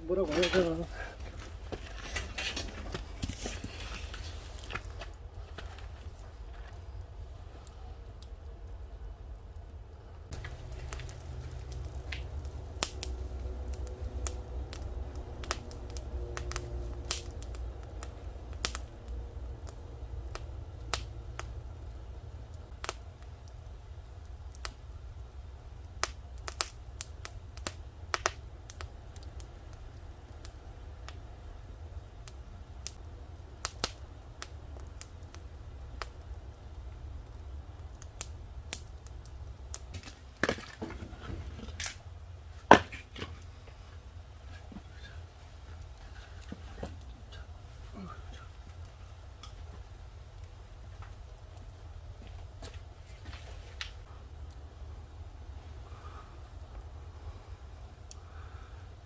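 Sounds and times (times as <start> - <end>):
low steady rumble: 0.0 - 59.0
wood fire crackling: 0.0 - 59.0
sharp pops of fire: 0.2 - 7.1, 9.6 - 43.5, 45.8 - 54.6.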